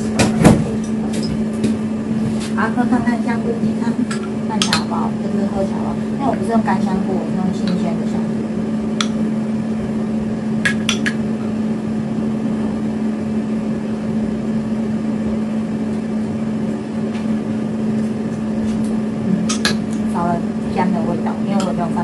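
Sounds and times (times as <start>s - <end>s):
kitchen appliance humming: 0.0s - 22.0s.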